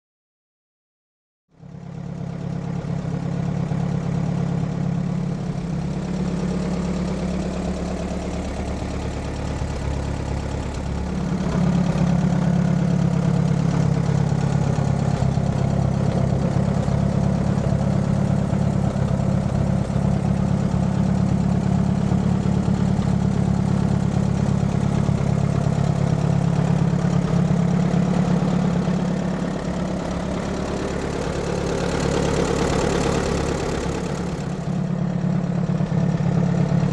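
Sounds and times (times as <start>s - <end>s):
tractor engine running: 2.0s - 36.9s.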